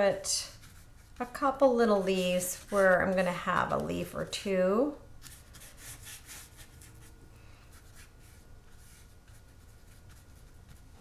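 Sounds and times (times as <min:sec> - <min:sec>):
low steady hum: 0:00.0 - 0:11.0
paintbrush strokes on paper: 0:00.1 - 0:04.4, 0:05.2 - 0:11.0.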